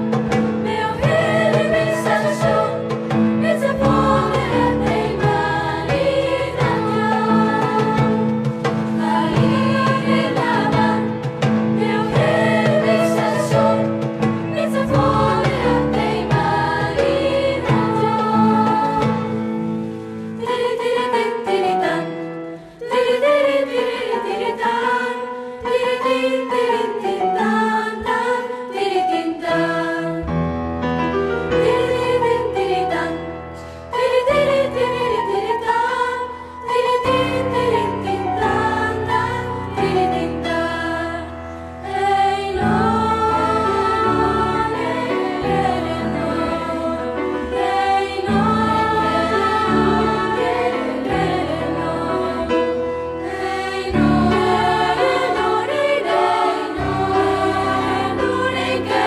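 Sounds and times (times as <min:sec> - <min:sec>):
mixed youth choir singing: 0:00.0 - 0:30.4, 0:31.3 - 0:59.0
piano accompaniment: 0:00.0 - 0:59.0.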